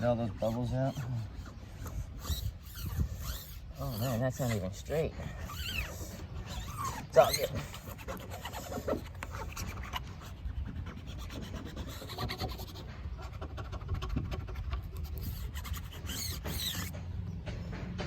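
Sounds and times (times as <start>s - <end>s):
sticker scratching on glass: 0.0s - 17.0s
small scrapes and clicks: 0.4s - 17.0s.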